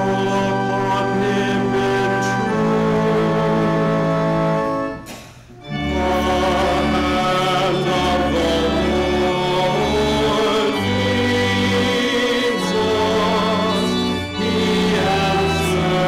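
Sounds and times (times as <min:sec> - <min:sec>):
organ chords: 0:00.0 - 0:16.0.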